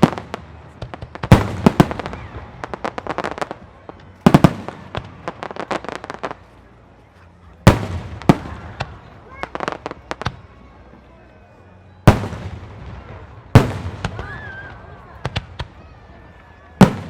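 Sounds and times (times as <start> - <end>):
fireworks bursting: 0.0 - 6.4, 7.7 - 10.4, 12.1 - 17.0
fireworks crackling: 0.0 - 6.8, 7.5 - 10.6, 12.1 - 17.0.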